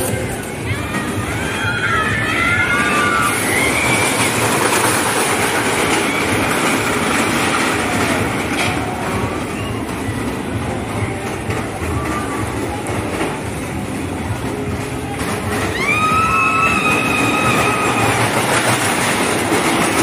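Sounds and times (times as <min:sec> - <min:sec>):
roller coaster wheels rumbling on rails: 0:00.0 - 0:20.0.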